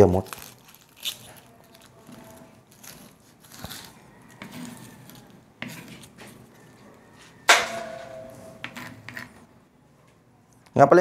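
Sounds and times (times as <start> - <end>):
onions being peeled: 0.0 - 9.5.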